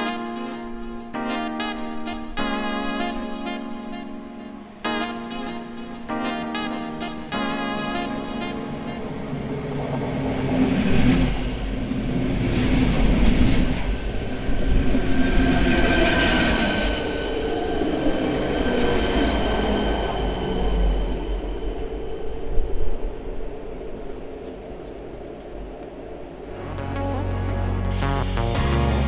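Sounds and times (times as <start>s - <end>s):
high train whine: 0.0s - 29.0s.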